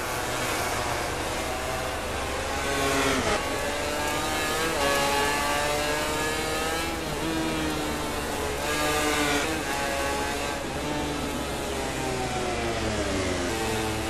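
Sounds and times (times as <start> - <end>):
racing motorcycle engines revving: 0.0 - 14.0.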